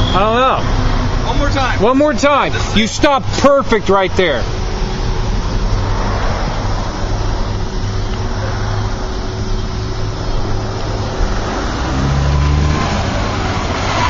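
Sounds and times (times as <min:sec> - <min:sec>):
car engine approaching: 0:00.0 - 0:14.0.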